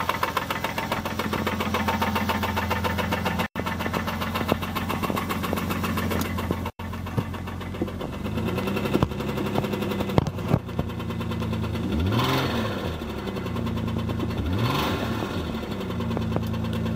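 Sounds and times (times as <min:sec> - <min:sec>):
car engine idling and revving: 0:00.0 - 0:16.9
engine knocking: 0:00.0 - 0:16.9.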